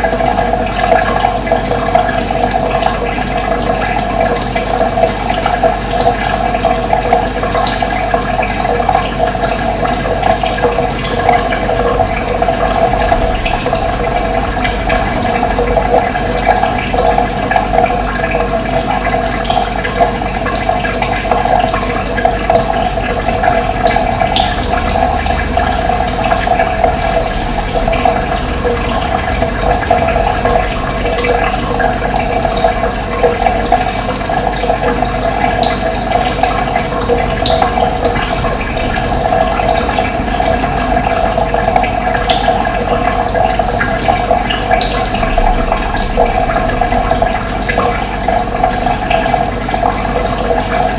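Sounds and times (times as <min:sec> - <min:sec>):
running water flowing: 0:00.0 - 0:50.9.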